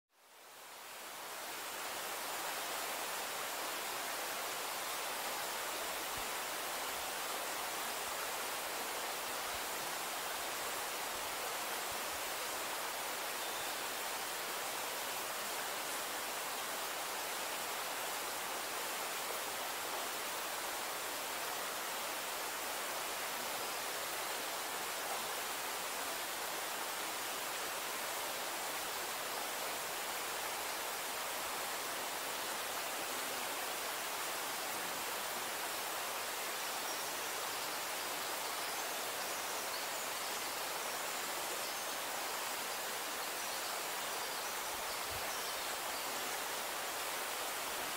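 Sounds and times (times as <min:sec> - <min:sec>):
steady outdoor rushing hiss: 0:00.2 - 0:47.9.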